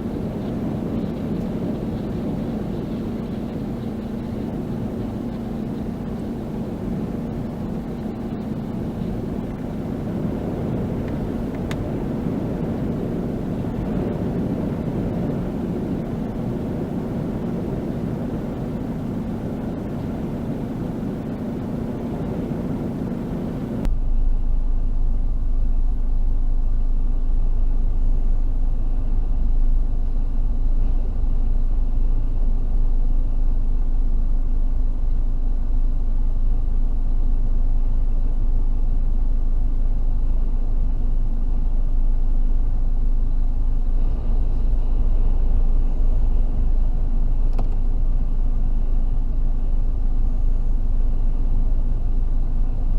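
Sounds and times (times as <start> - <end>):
strong wind on microphone: 0.0 - 52.9.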